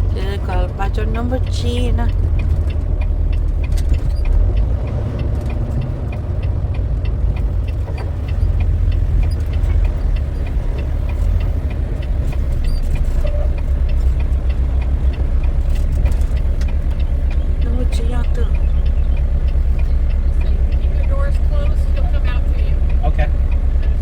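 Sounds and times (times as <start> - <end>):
diesel engine idling: 0.0 - 24.0
faint regular ticking: 0.0 - 24.0.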